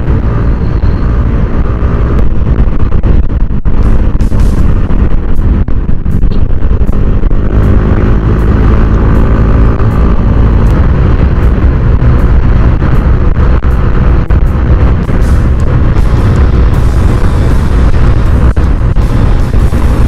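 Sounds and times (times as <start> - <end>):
gusty wind on microphone: 0.0 - 20.0.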